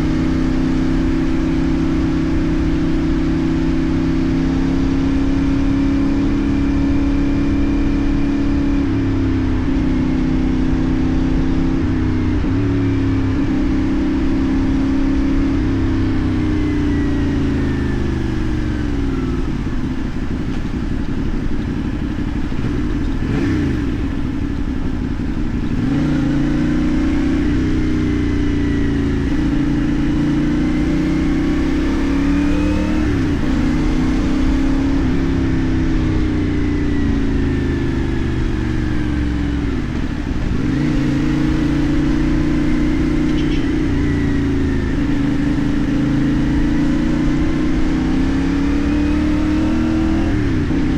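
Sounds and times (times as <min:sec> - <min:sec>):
motorcycle engine revving: 0:00.0 - 0:50.9
wind and road noise: 0:00.0 - 0:50.9.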